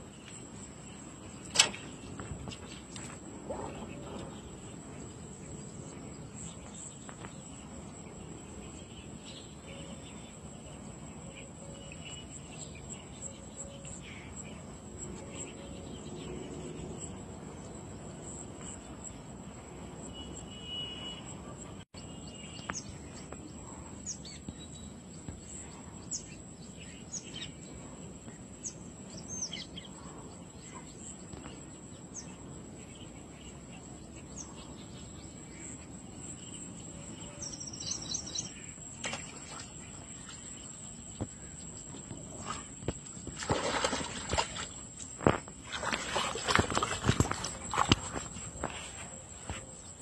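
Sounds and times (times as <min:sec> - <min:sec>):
wind: 0:00.0 - 0:50.0.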